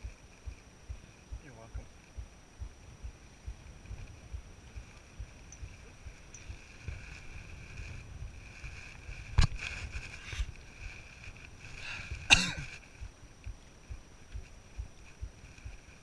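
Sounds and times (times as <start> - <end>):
footsteps on rocky trail: 0.0 - 16.0.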